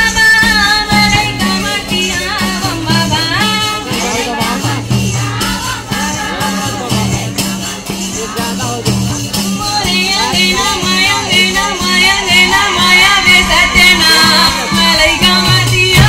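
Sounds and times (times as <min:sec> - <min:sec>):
jingling percussion: 0:00.0 - 0:16.0
person singing: 0:00.0 - 0:16.0.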